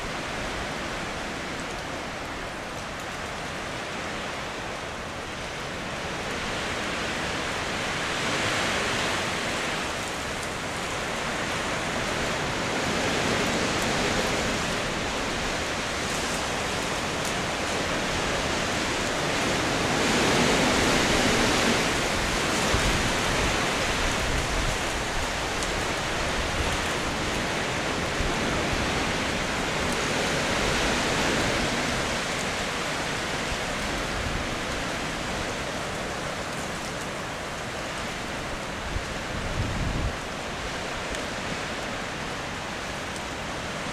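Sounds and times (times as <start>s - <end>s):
wind rustling through trees: 0.0s - 43.9s.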